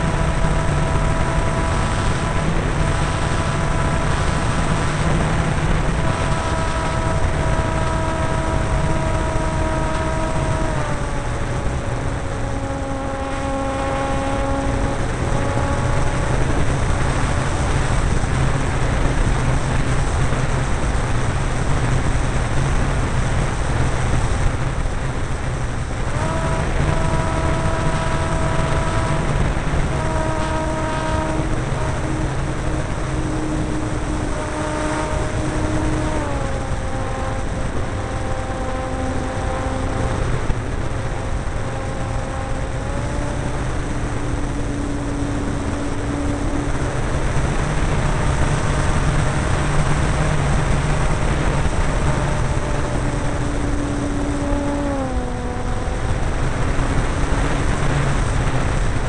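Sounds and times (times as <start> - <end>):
model plane electric motor whine: 0.0 - 59.0
wind rush: 0.0 - 59.0.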